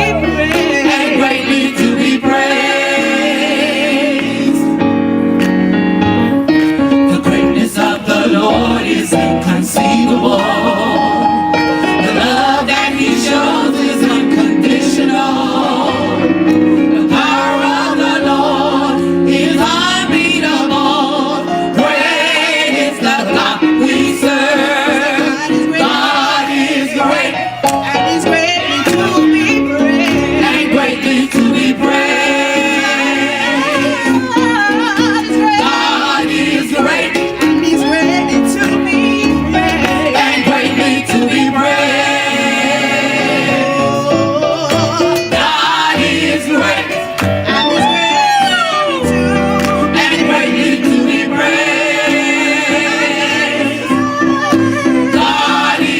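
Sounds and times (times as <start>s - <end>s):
gospel choir singing: 0.0s - 55.9s.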